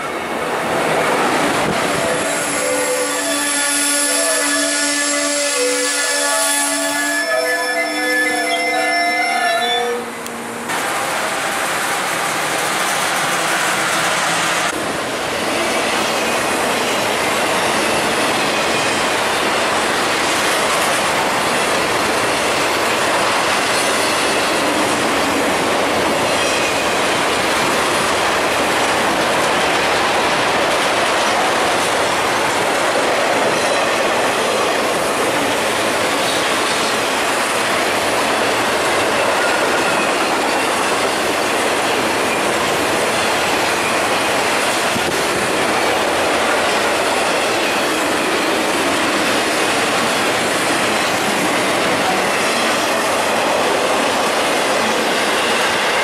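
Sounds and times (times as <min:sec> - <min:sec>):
freight train passing: 0:00.0 - 0:56.0
steel wheels rushing on rail: 0:00.0 - 0:56.0.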